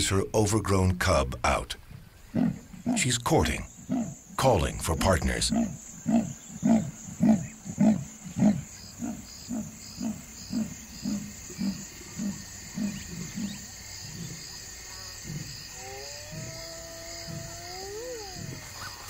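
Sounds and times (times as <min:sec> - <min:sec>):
insects chirping: 0:00.0 - 0:19.0
leopard rasping grunts: 0:02.3 - 0:19.0.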